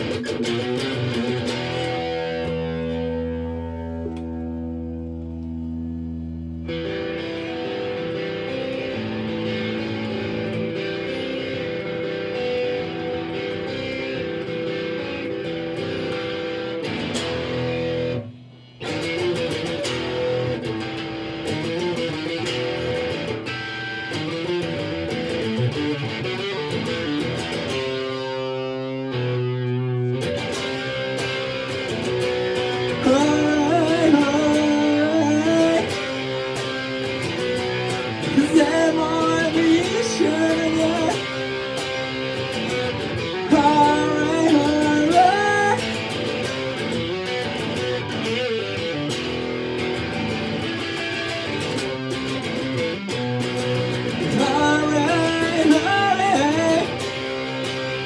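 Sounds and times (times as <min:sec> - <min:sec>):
electric guitar strumming chords: 0:00.0 - 0:58.0.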